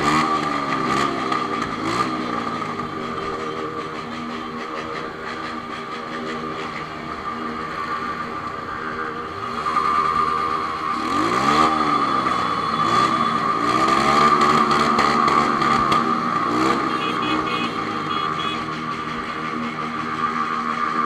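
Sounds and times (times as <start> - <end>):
motorcycle engine revving: 0.0 - 21.0
high-pitched whine: 2.4 - 15.5, 16.2 - 21.0.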